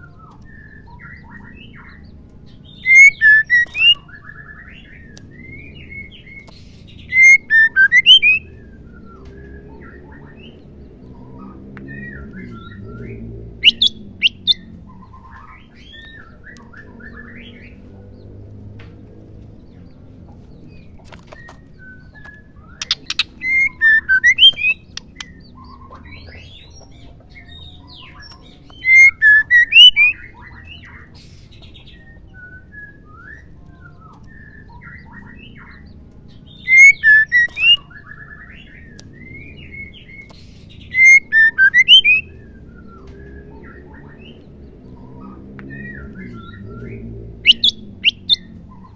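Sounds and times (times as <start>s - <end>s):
soft bird chirps: 0.0s - 48.9s
bird whistled calls: 2.7s - 10.6s, 11.9s - 17.7s, 21.3s - 26.6s, 27.4s - 35.8s, 36.5s - 44.4s, 45.0s - 48.9s.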